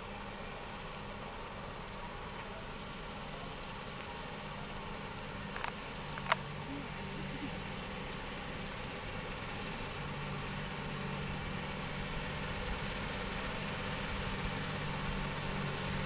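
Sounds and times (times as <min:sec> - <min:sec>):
heavy diesel truck rumble: 0:00.0 - 0:16.0.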